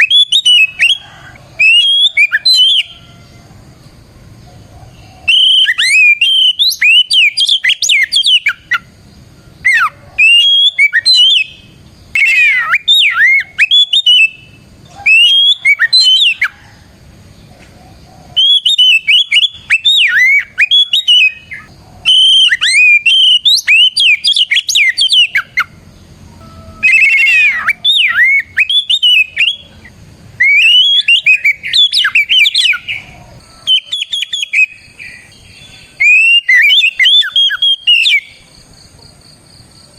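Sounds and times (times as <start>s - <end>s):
bird singing whistled phrases: 0.0s - 3.2s, 5.2s - 8.9s, 9.6s - 16.6s, 18.4s - 38.5s.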